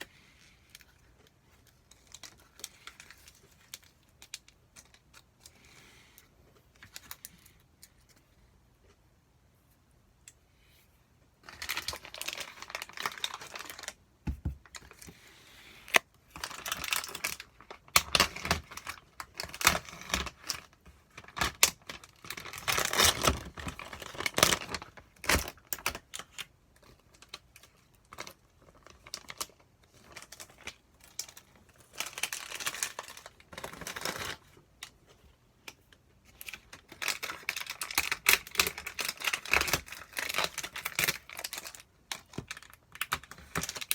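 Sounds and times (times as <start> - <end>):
plastic packaging crinkling: 0.1 - 5.7, 11.4 - 15.2, 15.8 - 35.0, 35.9 - 43.9.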